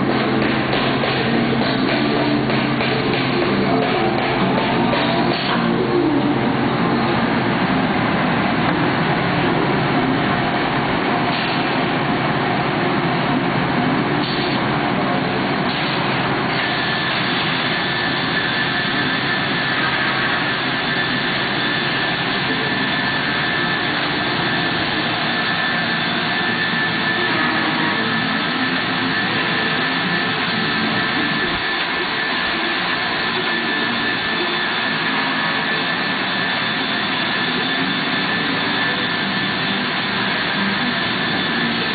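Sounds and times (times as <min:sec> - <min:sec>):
high steady whine: 0:00.0 - 0:41.9
loud machine noise: 0:00.0 - 0:41.9.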